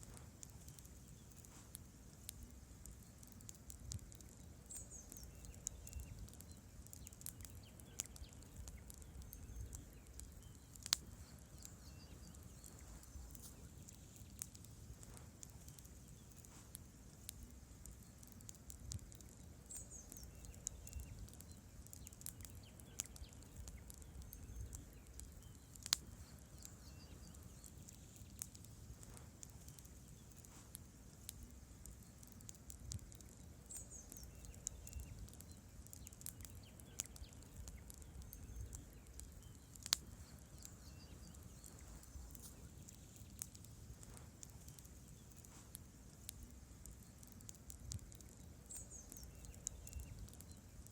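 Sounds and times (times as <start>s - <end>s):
campfire crackling and popping: 0.0s - 50.9s
low rumble of flames: 0.0s - 50.9s.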